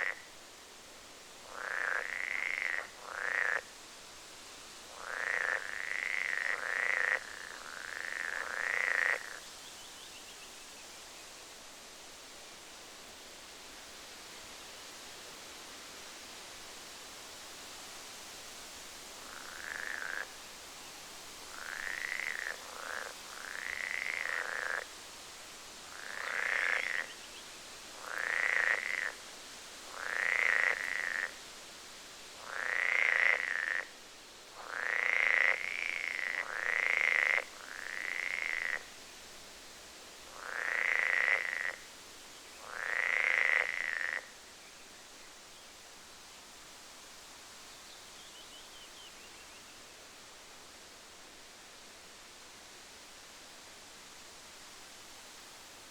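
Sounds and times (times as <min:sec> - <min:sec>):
steady background hiss: 0:00.0 - 0:55.9.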